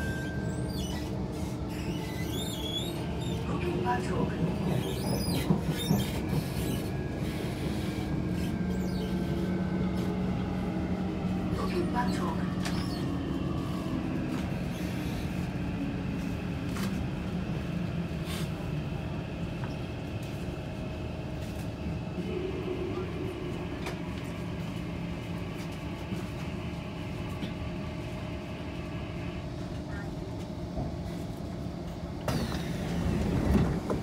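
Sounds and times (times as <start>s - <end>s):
train motor hum: 0.0s - 34.0s
train rumble: 0.0s - 34.0s.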